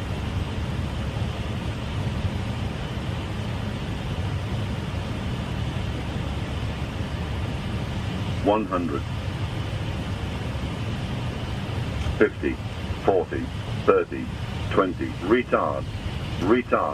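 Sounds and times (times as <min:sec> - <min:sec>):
rush of airflow: 0:00.0 - 0:16.5
low engine rumble: 0:00.0 - 0:16.9.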